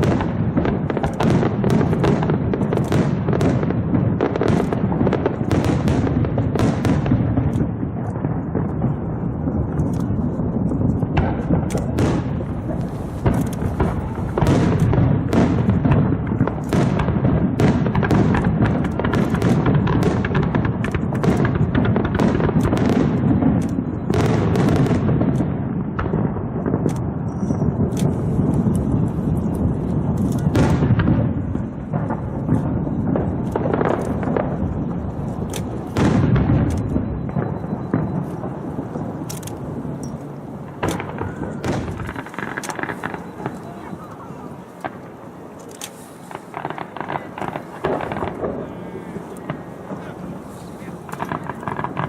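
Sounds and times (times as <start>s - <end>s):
fireworks booming and cracking: 0.0s - 52.0s.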